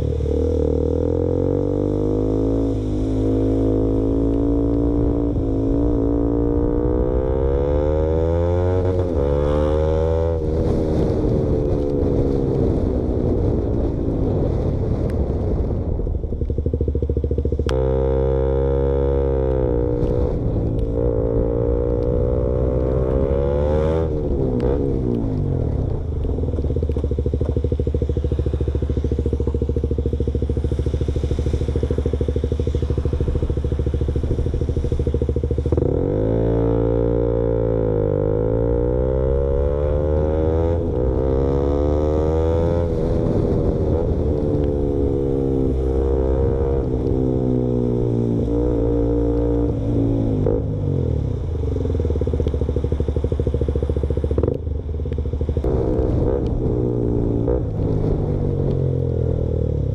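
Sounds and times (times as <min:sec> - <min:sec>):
loud motorcycle engine revving: 0:00.0 - 0:13.0, 0:17.7 - 0:25.8, 0:26.8 - 0:54.7, 0:55.4 - 0:59.9.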